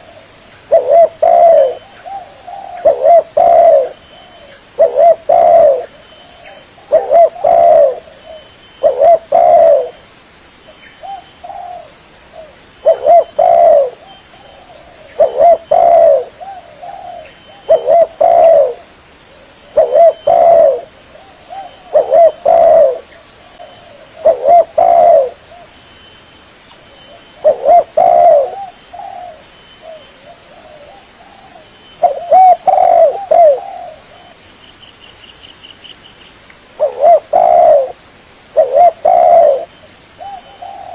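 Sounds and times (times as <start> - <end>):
dove cooing: 0.0 - 10.0, 11.0 - 25.7, 27.1 - 34.4, 36.8 - 40.9.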